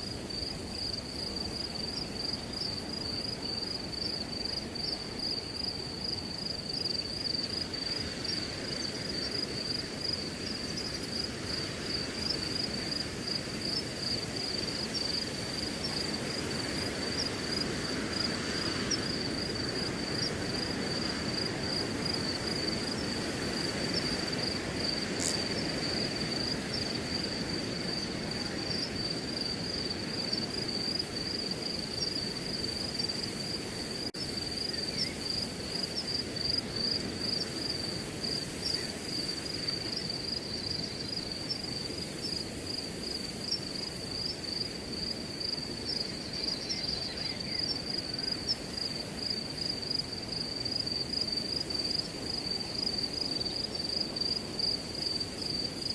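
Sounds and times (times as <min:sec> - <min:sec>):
crickets chirping: 0:00.0 - 0:55.9
wind through grass: 0:00.0 - 0:55.9.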